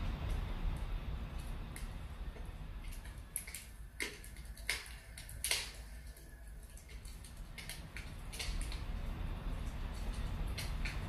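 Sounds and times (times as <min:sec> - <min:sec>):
low steady rumble: 0:00.0 - 0:11.0
wood fire crackling: 0:00.0 - 0:11.0.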